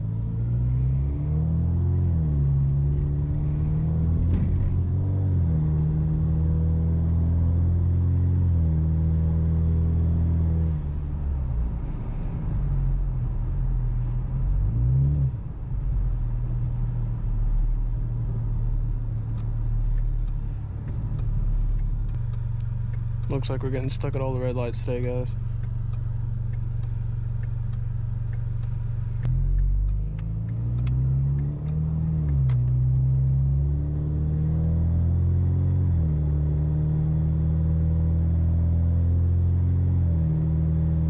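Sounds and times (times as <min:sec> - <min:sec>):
car engine droning in cabin: 0:00.0 - 0:41.0.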